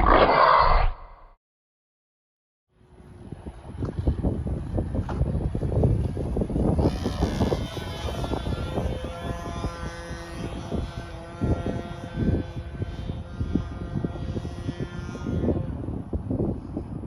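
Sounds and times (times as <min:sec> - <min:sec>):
model plane motor and propeller: 0:02.8 - 0:17.0
wind buffeting microphone: 0:02.8 - 0:17.0.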